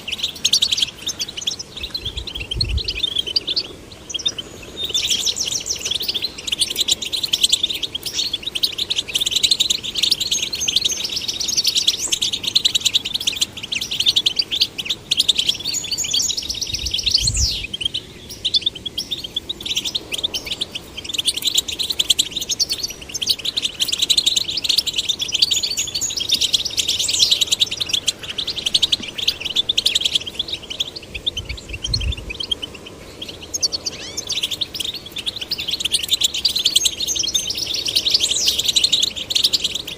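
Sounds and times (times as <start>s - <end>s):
goldfinches twittering song: 0.0s - 39.9s.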